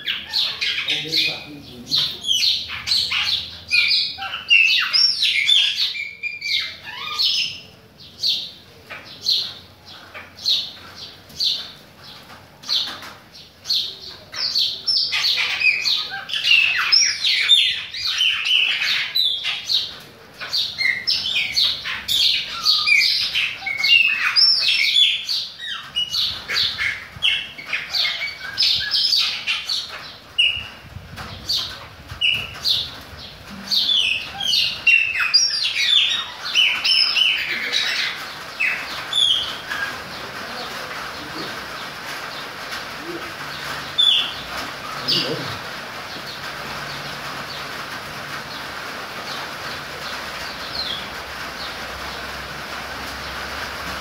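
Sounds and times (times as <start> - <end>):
blackbirds chirping and whistling: 0.0 - 53.8.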